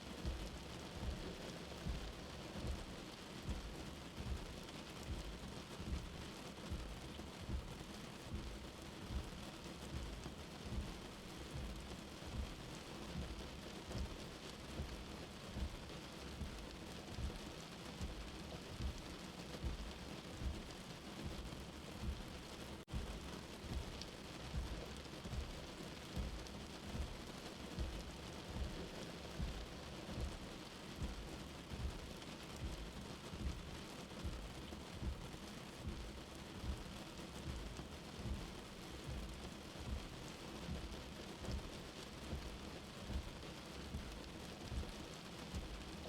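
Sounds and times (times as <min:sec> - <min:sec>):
soft low heartbeat: 0:00.0 - 0:46.0
steady rain hiss: 0:00.0 - 0:46.0.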